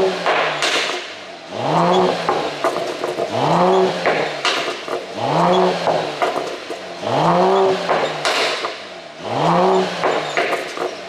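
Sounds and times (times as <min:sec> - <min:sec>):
car engine revving: 0:00.0 - 0:11.0
exhaust crackles and pops: 0:00.0 - 0:11.0.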